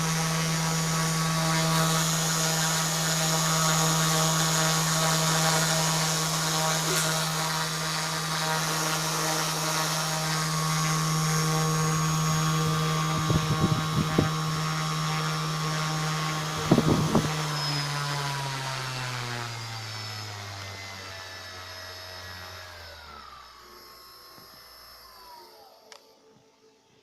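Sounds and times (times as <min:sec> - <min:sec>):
brushless motor whining: 0:00.0 - 0:26.8.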